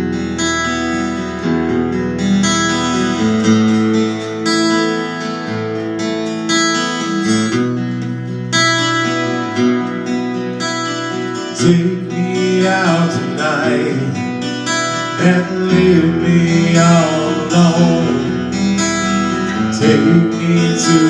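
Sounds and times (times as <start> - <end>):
guitar chords: 0.0 - 21.0.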